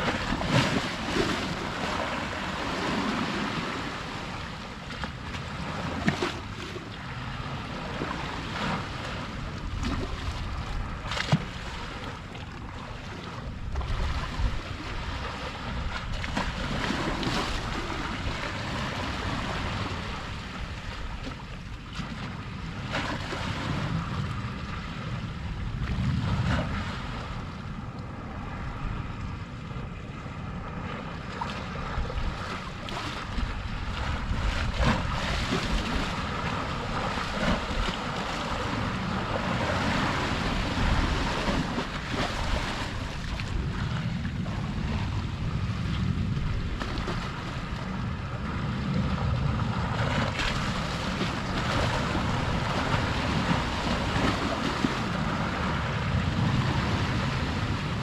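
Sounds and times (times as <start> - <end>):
sea waves washing on shore: 0.0 - 58.0
wind buffeting microphone: 0.0 - 58.0.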